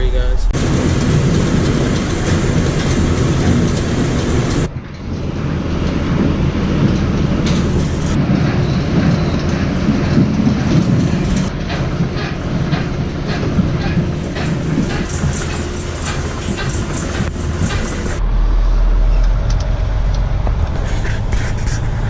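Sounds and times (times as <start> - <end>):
seed-loading machinery running: 0.6 - 22.0.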